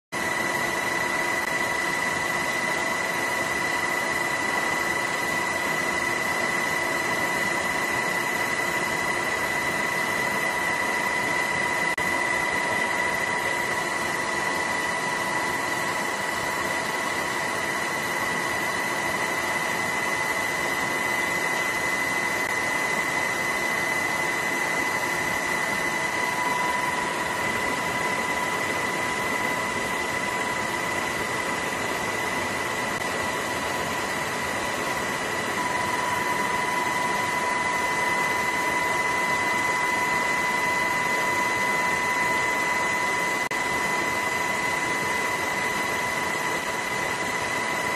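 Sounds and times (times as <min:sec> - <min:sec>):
engine rushing hiss with whine: 0:00.4 - 0:47.9.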